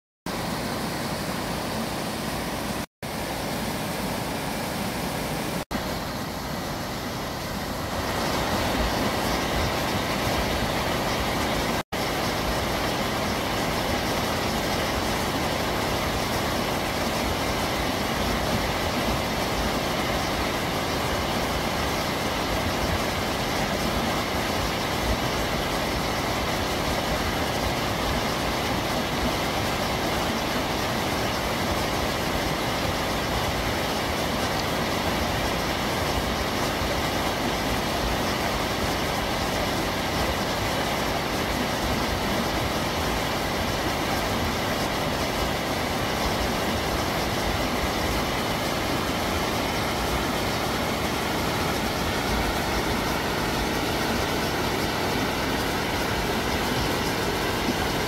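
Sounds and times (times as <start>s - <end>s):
stream rushing over rocks: 0.3s - 58.0s.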